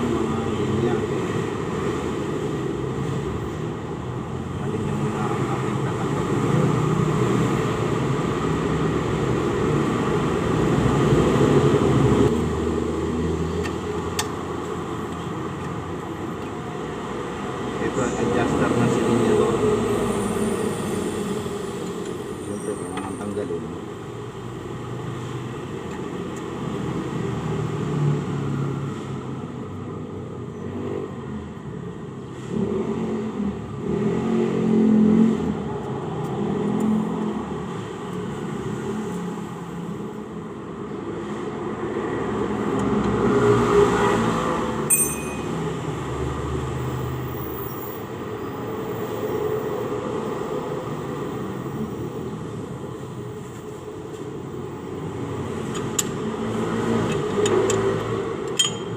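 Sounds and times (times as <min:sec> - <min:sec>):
passing vehicles rumbling: 0:00.0 - 0:58.9.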